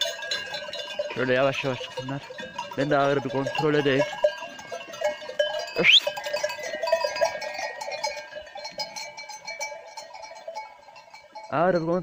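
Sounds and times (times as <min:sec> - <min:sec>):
goat bells clinking: 0:00.0 - 0:12.0.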